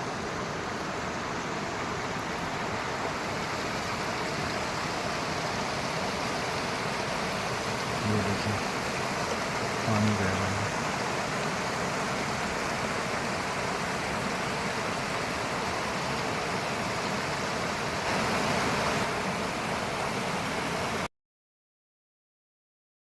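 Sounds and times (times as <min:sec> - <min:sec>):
river water rushing: 0:00.0 - 0:21.1.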